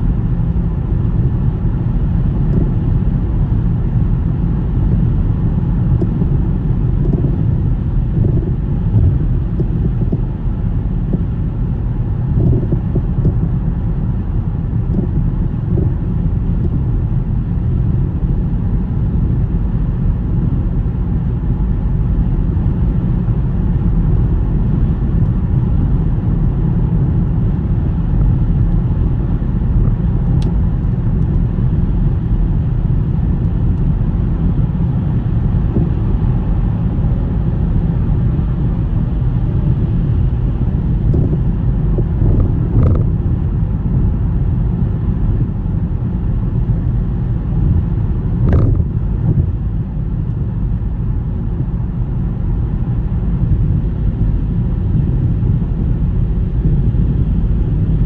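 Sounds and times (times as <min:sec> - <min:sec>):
car tyres and engine rumbling: 0:00.0 - 0:58.0.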